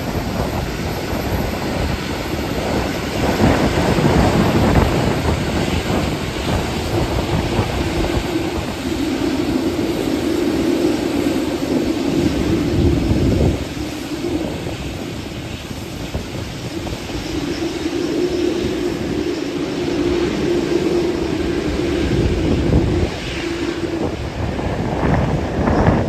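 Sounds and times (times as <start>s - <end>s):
airliner engines humming: 0.0s - 26.0s
wind buffeting microphone: 0.0s - 26.0s.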